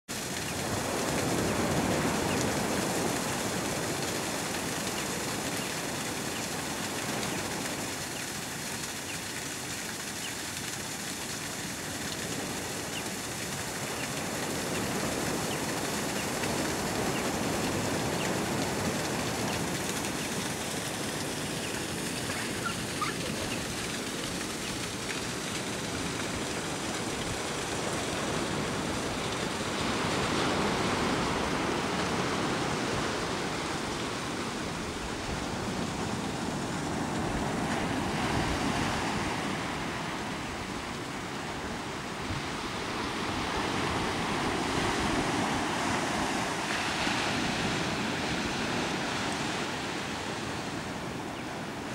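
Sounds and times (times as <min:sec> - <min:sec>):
waves washing onto beach: 0:00.0 - 0:51.9
small waterfall spilling: 0:00.1 - 0:51.9.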